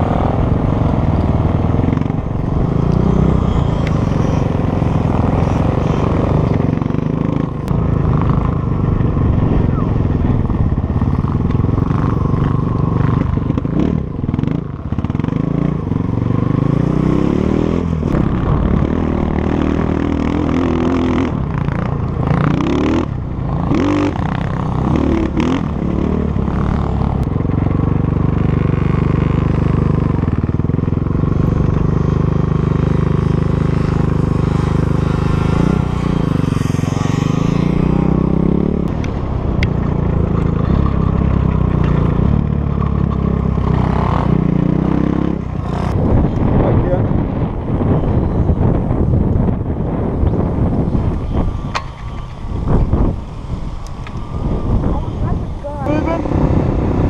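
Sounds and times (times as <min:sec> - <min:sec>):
dirt bike engine revving: 0:00.0 - 0:27.2, 0:27.9 - 0:57.0.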